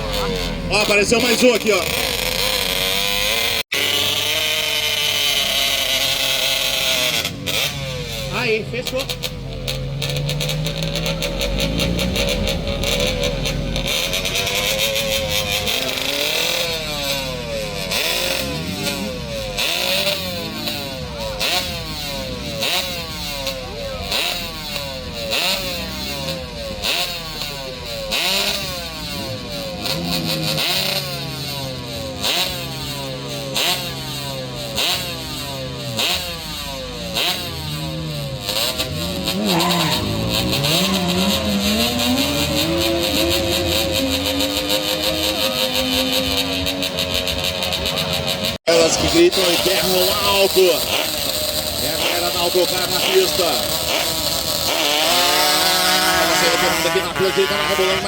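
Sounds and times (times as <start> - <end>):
motorcycle accelerating: 0.0 - 58.0
motorcycle engines revving: 0.0 - 58.0.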